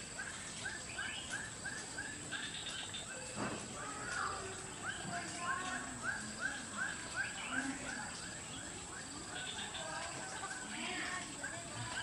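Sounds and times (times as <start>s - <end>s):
bird chirping in series: 0.0s - 12.0s
other bird calls: 0.0s - 12.0s.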